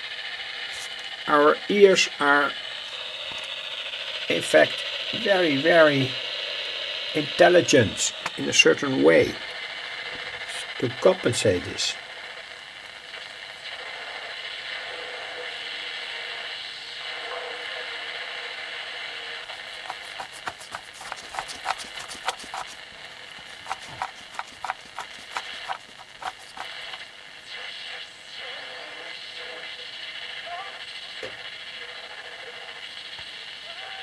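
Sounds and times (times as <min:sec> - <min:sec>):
shortwave radio station through hiss: 0:00.0 - 0:34.0.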